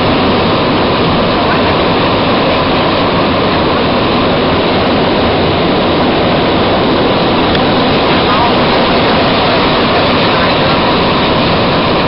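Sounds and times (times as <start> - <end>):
train rushing through tunnel: 0.0 - 12.0.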